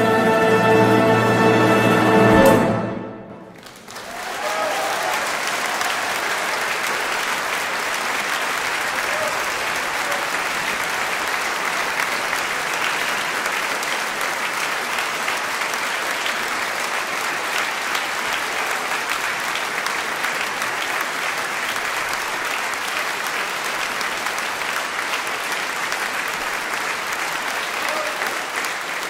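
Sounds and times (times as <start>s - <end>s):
audience applauding: 3.5s - 29.0s.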